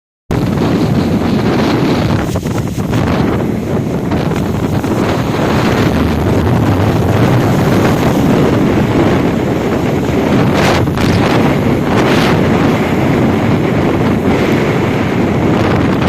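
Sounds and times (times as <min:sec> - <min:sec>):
strong wind on microphone: 0:00.3 - 0:16.0.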